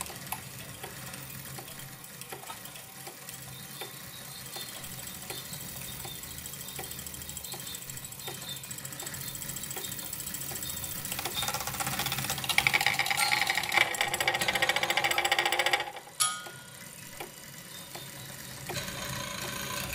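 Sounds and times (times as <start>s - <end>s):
fast high ticking: 0.0s - 19.9s.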